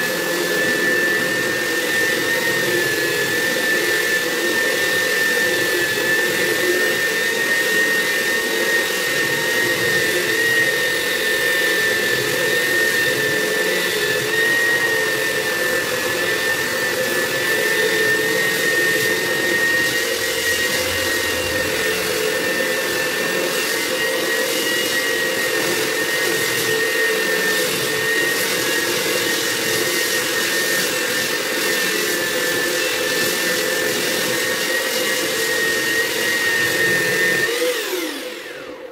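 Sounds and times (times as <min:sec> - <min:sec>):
belt sander sanding wood: 0:00.0 - 0:38.4.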